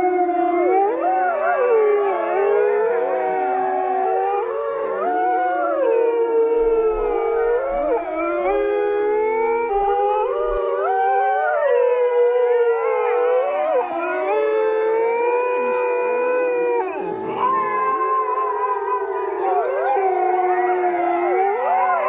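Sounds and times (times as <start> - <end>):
coyotes howling: 0.0 - 22.0.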